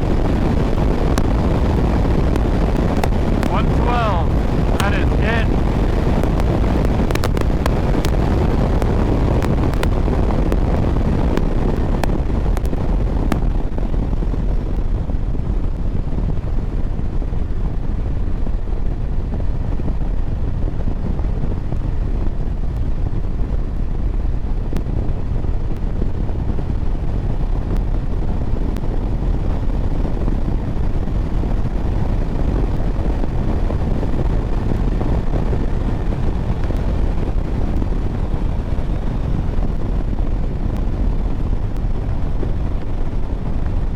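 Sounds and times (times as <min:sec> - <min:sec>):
motorcycle engine at speed: 0:00.0 - 0:43.9
wind rush on microphone: 0:00.0 - 0:43.9.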